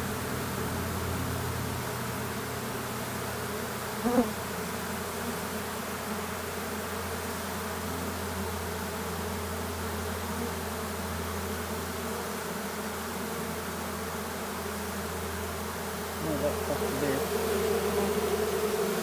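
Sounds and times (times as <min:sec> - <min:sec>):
honeybees buzzing: 0:02.1 - 0:19.0.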